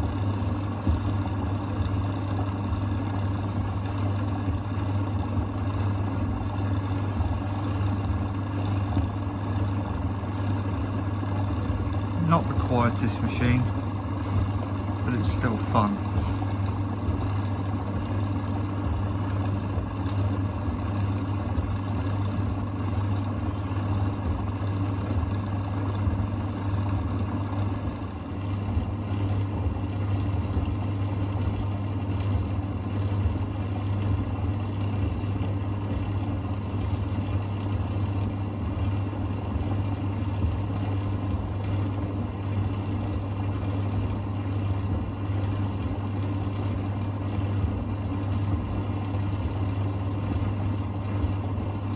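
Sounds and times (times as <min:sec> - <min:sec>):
tumble dryer running: 0:00.0 - 0:51.9.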